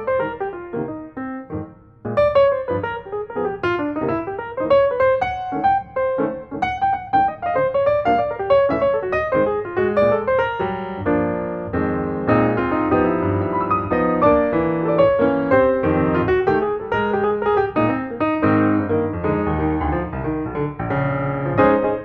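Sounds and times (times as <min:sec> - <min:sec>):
lively piano music: 0:00.0 - 0:22.0.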